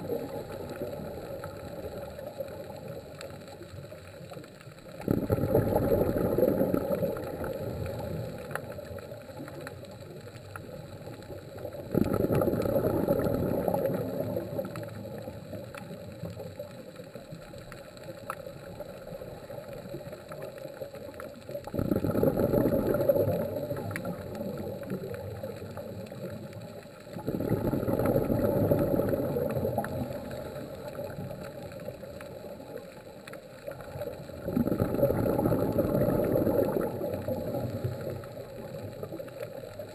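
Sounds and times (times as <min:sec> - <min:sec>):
underwater bubbles rushing: 0:00.0 - 0:39.9.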